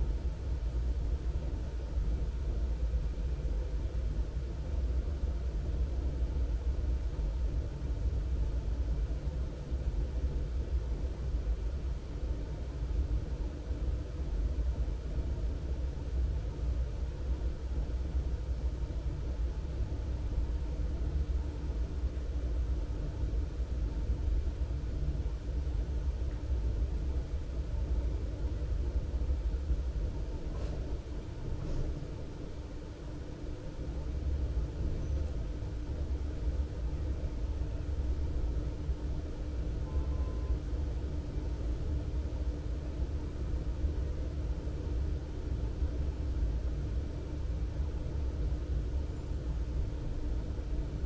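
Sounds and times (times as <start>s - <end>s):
faint hum: 0.0s - 51.0s
low outdoor rumble: 0.0s - 51.0s.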